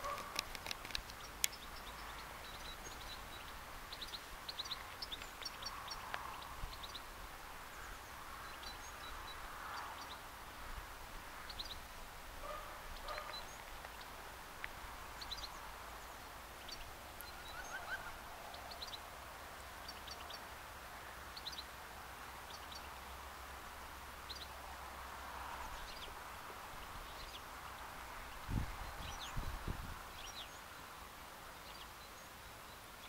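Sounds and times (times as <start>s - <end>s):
small birds chirping: 0.0s - 24.8s, 25.4s - 33.0s.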